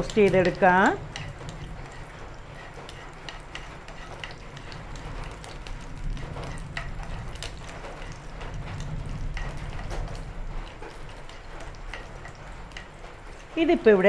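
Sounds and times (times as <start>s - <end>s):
small crackles and pops: 0.0s - 13.6s
nuts sizzling in a frying pan: 0.0s - 14.0s.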